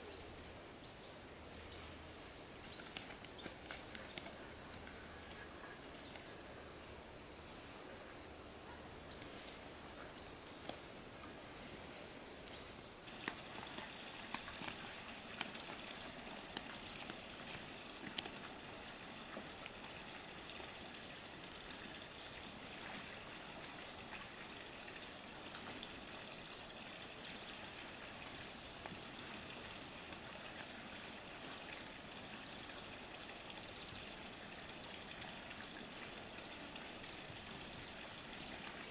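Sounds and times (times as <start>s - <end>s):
faint high insect hum: 0.0s - 38.9s
insect chorus: 0.0s - 38.9s
soft hiss: 0.0s - 38.9s.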